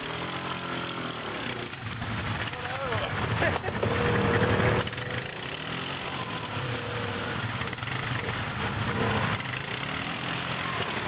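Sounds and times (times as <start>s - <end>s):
quad bike engine idling: 0.0s - 11.0s.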